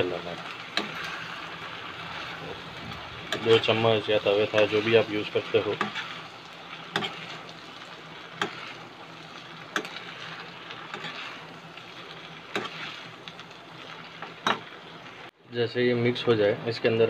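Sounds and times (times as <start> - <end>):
food sizzling in a wok: 0.0 - 15.4.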